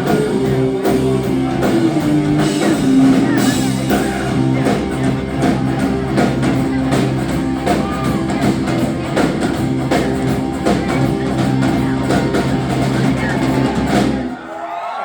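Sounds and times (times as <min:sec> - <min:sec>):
held guitar chords: 0:00.0 - 0:14.4
live rock band playing: 0:00.0 - 0:14.4
steady drum beat: 0:00.0 - 0:14.4.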